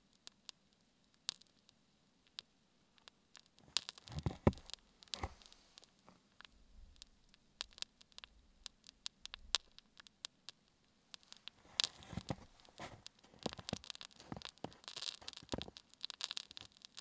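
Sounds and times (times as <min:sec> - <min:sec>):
candle sputtering and crackling: 0:00.2 - 0:17.0.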